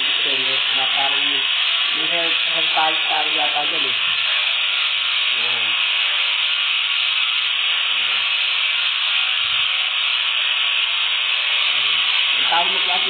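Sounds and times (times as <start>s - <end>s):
electric polisher grinding steel: 0.0s - 13.0s.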